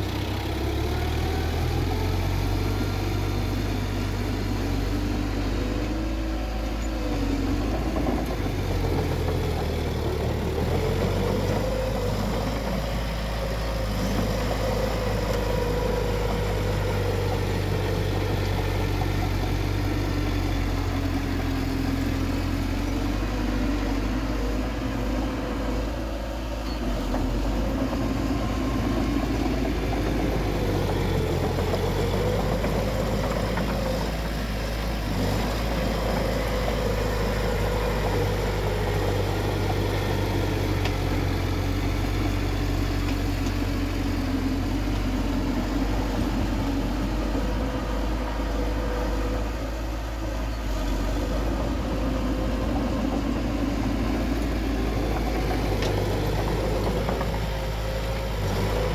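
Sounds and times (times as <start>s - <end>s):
bulldozer engine rumbling: 0.0s - 58.9s.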